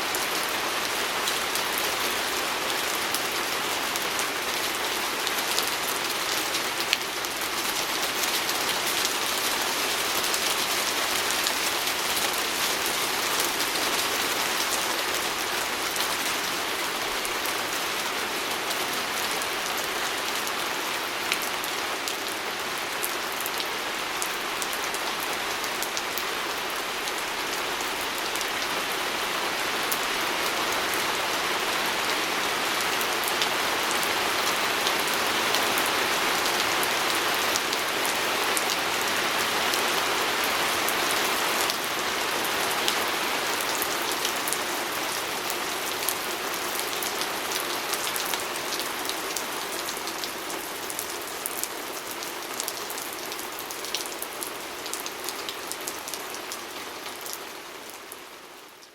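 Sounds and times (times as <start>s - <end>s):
rain pattering on a window: 0.1s - 58.2s.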